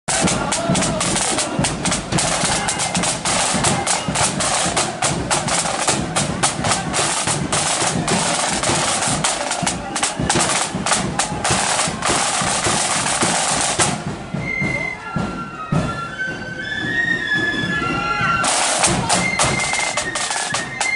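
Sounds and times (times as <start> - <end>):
high flute melody: 0.1 - 20.9
snare drums and bass drum marching: 0.1 - 20.9.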